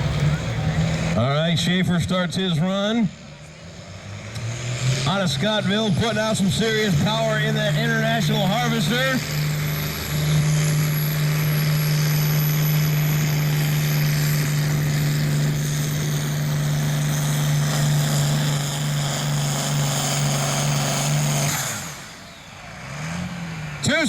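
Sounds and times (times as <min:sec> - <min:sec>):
tractor engine running hard: 0:00.0 - 0:24.0.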